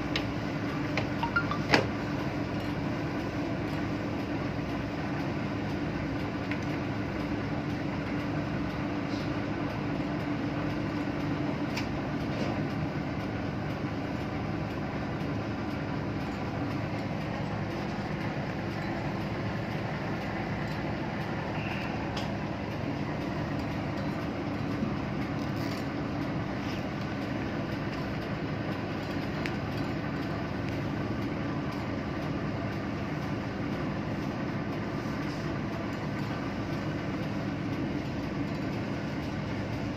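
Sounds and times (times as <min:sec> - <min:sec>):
ship machinery drone: 0:00.0 - 0:39.9.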